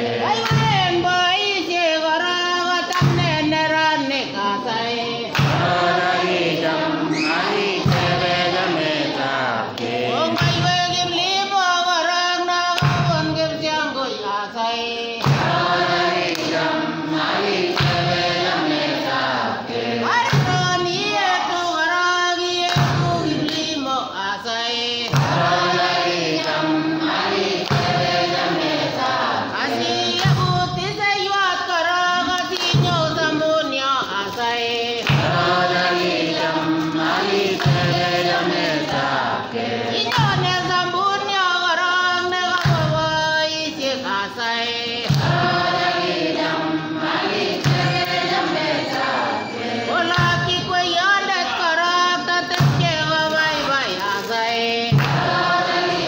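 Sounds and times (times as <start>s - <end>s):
congregation singing: 0.0s - 56.0s.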